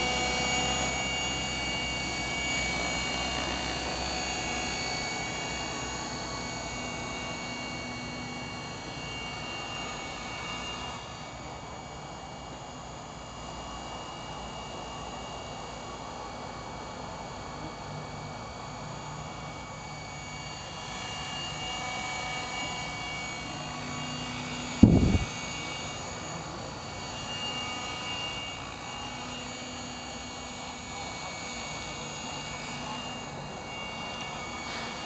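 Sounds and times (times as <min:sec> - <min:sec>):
helicopter motor whine: 0:00.0 - 0:35.0.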